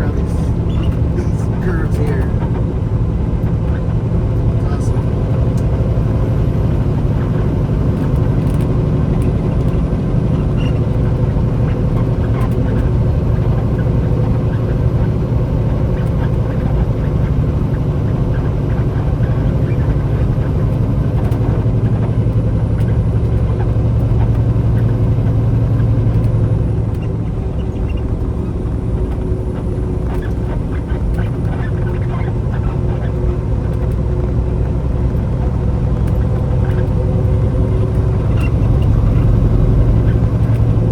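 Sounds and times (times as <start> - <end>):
road noise: 0.0 - 40.9
truck diesel engine: 0.0 - 40.9.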